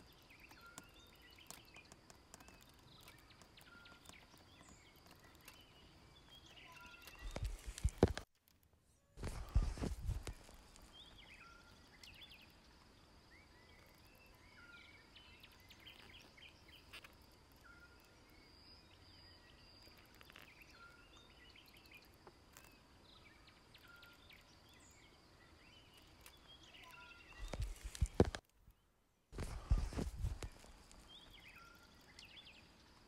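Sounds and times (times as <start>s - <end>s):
small birds chirping: 0.0s - 8.3s, 9.0s - 33.0s.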